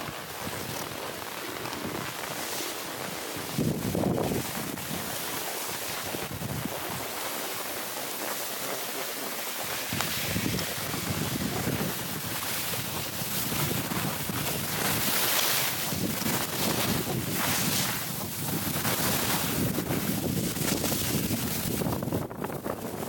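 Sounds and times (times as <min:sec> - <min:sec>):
skis scraping over snow: 0:00.0 - 0:23.0
wind rumbling on microphone: 0:00.0 - 0:23.0.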